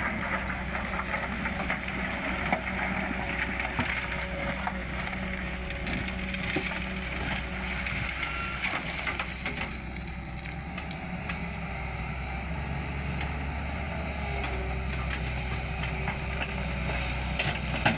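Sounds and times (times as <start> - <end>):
excavator diesel engine running: 0.0 - 17.9.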